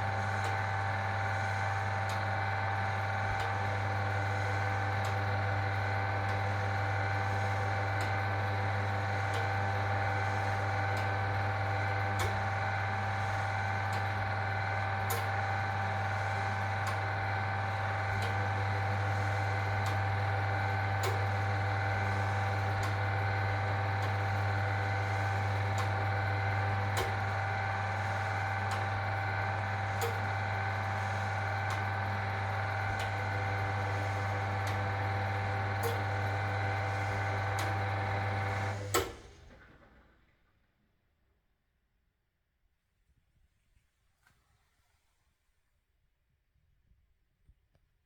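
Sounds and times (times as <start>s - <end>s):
washing machine humming: 0.0s - 39.6s.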